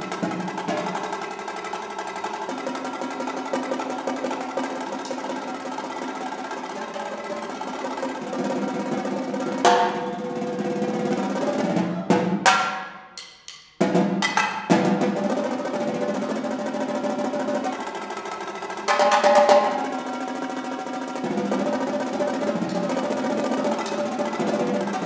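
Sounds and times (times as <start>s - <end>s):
toms played with sticks: 0.0s - 25.0s.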